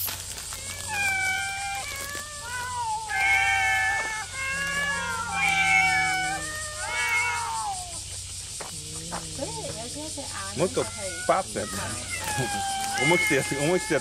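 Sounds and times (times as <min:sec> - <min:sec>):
cats meowing: 0:00.3 - 0:08.2, 0:08.8 - 0:14.0.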